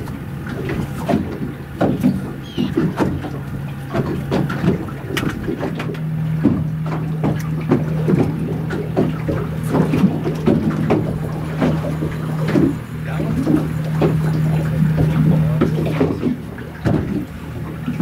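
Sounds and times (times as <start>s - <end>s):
small waves splashing against hull: 0.0s - 18.0s
steady low hum: 0.0s - 18.0s.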